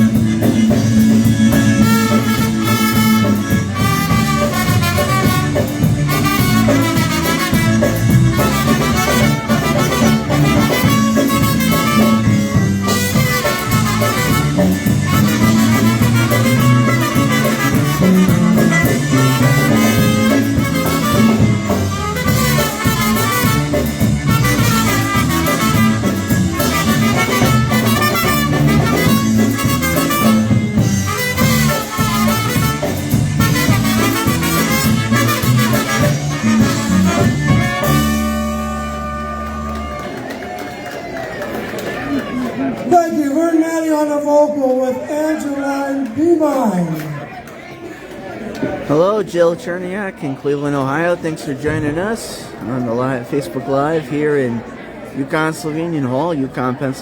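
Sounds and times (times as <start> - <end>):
polka band playing: 0.0 - 47.5, 48.4 - 57.0.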